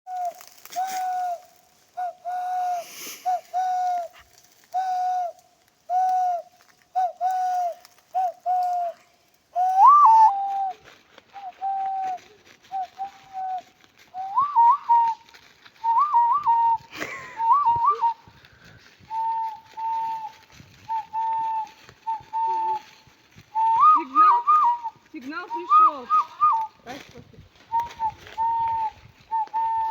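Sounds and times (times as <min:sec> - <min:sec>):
hand whistle hooting: 0:00.1 - 0:09.0, 0:09.6 - 0:10.8, 0:11.4 - 0:18.3, 0:19.0 - 0:26.8, 0:27.7 - 0:29.9.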